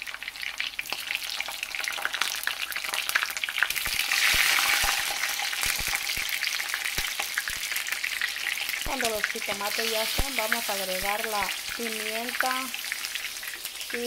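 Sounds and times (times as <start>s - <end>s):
oil sizzling in frying pan: 0.0s - 14.0s.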